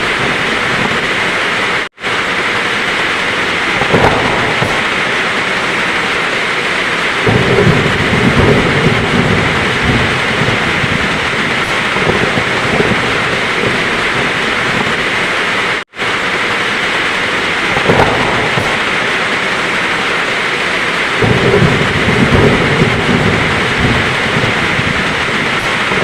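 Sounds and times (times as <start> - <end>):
heavy rain: 0.0 - 26.0
thunder rumbling: 0.0 - 26.0.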